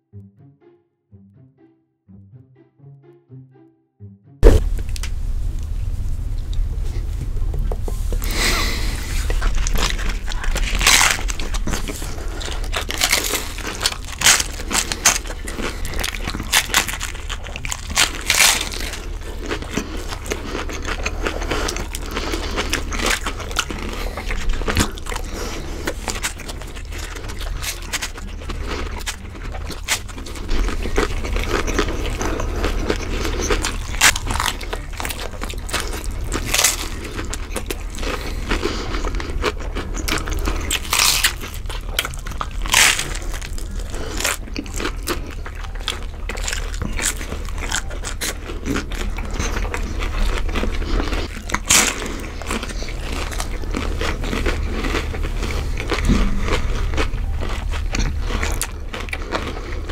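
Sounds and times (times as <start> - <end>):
crunchy taco chewing: 4.4 - 59.9
steady low hum: 4.4 - 59.9.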